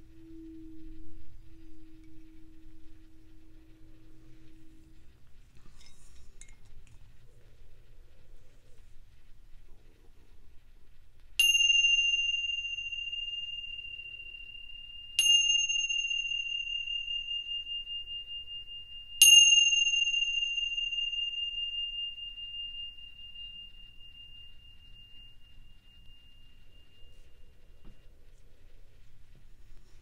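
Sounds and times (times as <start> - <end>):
tingsha cymbals ringing: 0.0 - 30.0.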